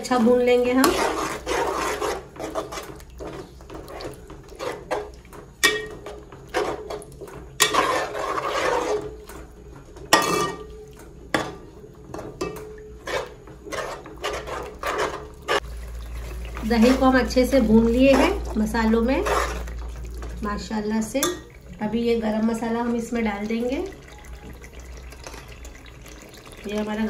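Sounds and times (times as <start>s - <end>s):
spoon stirring and scraping pot: 0.0s - 24.5s
masala frying: 0.0s - 27.0s.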